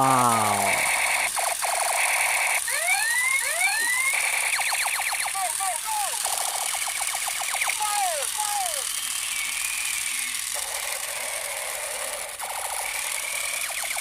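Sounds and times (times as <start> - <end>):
toy gun clicking gunfire bursts: 0.4 - 14.0.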